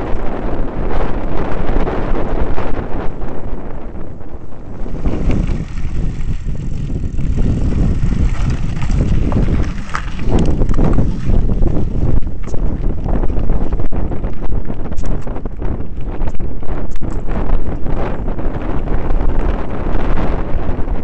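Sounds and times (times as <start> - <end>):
wind buffeting microphone: 0.0 - 21.0
bike tyres rolling on gravel: 0.1 - 21.0.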